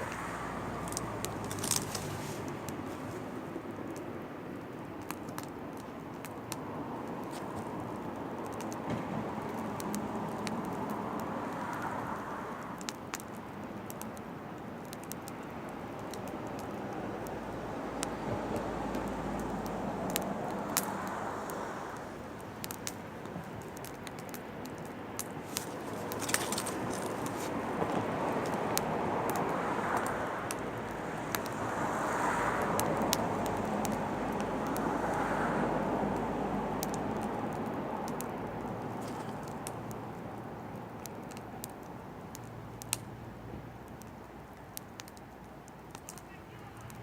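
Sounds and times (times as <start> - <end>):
firewood crackling and popping: 0.0 - 47.0.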